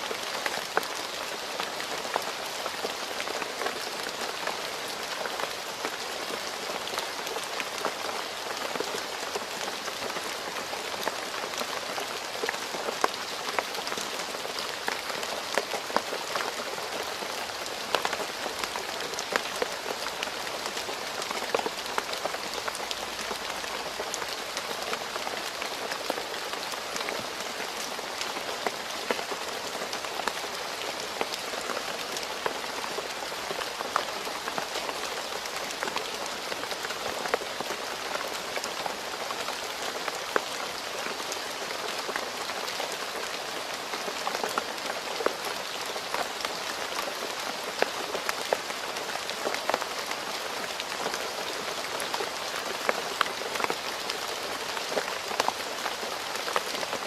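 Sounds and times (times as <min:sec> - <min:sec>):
rain falling on a road: 0:00.0 - 0:57.0.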